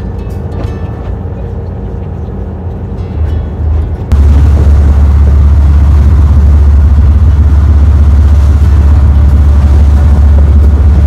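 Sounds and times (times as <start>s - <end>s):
boat engine rumble: 0.0s - 11.0s
wind: 0.0s - 11.0s.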